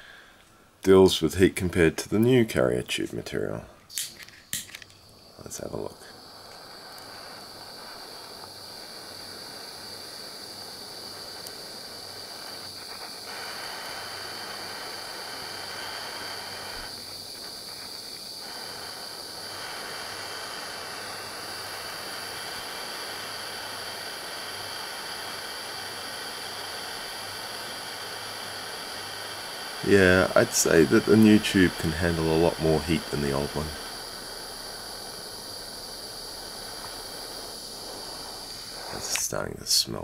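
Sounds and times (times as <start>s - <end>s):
gas torch hissing: 0.0s - 40.0s.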